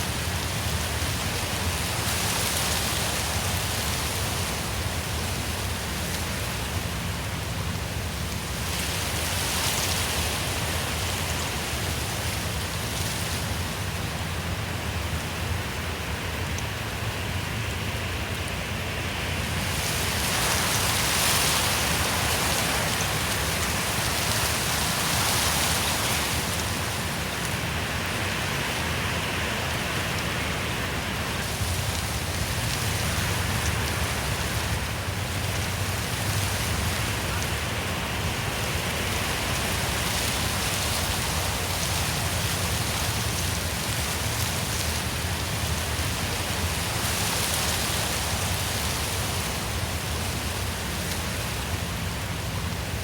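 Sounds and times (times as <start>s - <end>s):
wind rushing through trees: 0.0s - 53.0s.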